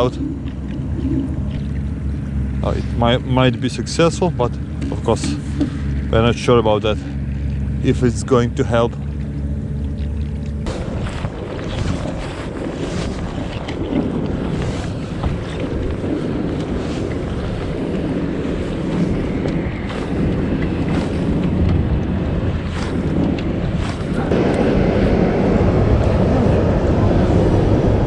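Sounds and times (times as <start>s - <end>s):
water rushing around boat: 0.0s - 28.0s
wind buffeting microphone: 0.0s - 28.0s.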